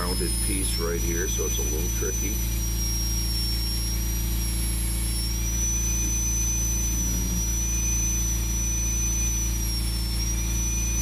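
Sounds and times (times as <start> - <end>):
high wavering whine: 0.0 - 11.0
mechanical drone with hum: 0.0 - 11.0.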